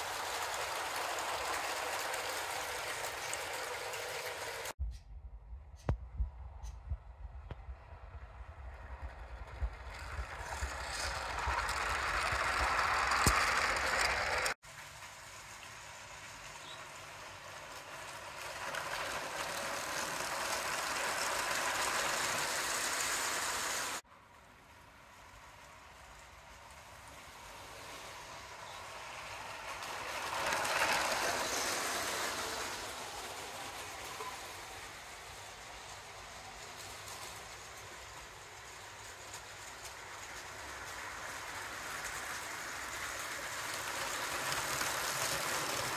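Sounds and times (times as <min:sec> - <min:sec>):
toy train wheels clicking and rattling: 0:00.0 - 0:04.8, 0:08.7 - 0:24.0, 0:24.6 - 0:45.9.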